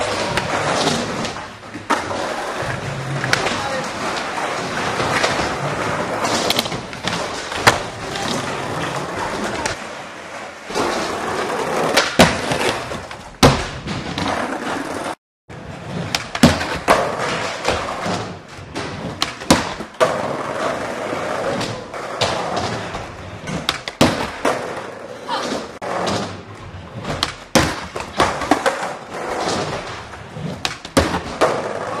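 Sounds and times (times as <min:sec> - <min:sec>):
skateboard clacks and thuds: 0:00.0 - 0:10.0, 0:10.7 - 0:15.2, 0:16.0 - 0:32.0
skateboard wheels rolling: 0:00.0 - 0:32.0.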